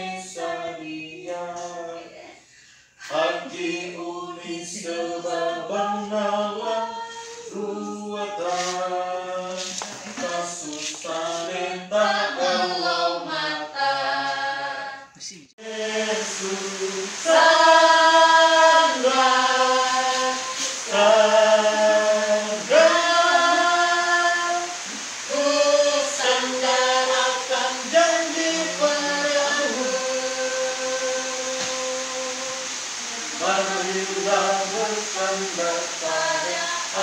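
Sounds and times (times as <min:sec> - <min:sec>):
group singing unaccompanied: 0:00.0 - 0:02.3, 0:03.0 - 0:37.0.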